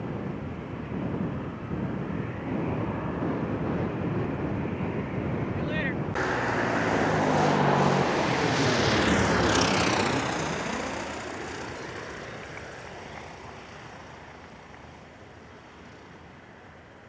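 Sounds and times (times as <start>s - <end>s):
small airplane flying past: 0.0s - 17.0s.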